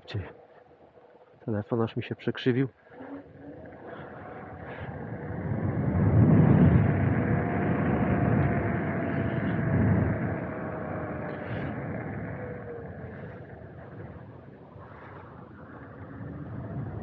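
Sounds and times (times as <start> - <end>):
faint hum: 0.0 - 17.0
vehicle road noise rumble: 2.7 - 17.0.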